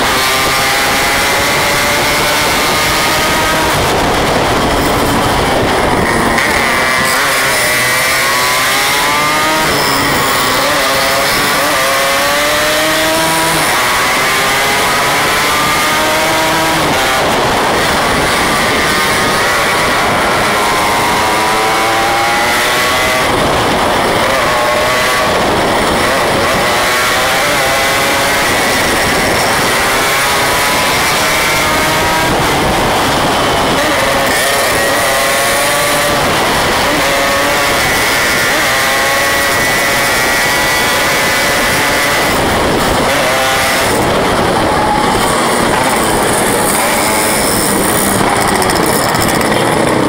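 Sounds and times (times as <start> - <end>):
motorcycle engine revving: 0.0 - 50.0
wind noise: 0.0 - 50.0.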